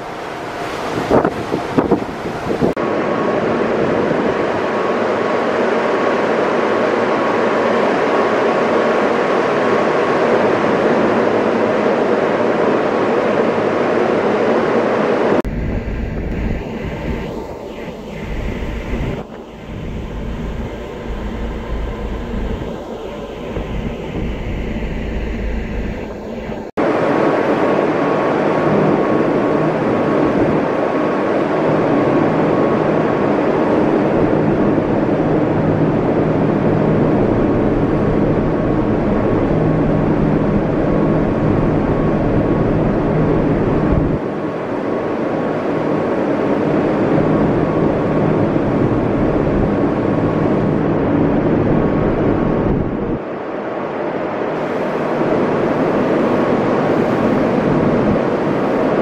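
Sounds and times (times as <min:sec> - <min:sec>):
faint steady whine: 0:00.0 - 0:59.0
ship and sea rumbling: 0:00.0 - 0:59.0.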